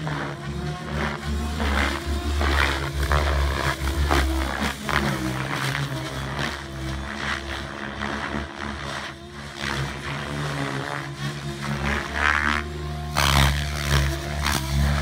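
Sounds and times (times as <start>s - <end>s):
model helicopter rotor drone: 0.0s - 15.0s.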